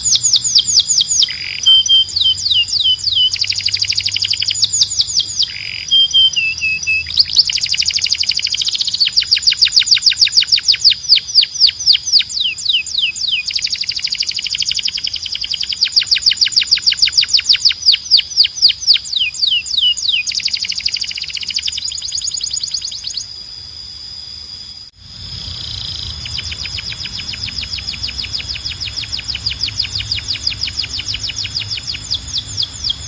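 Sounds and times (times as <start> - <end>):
canary singing trills: 0.0 - 23.6, 24.6 - 33.0
high whistled tone: 0.0 - 33.0.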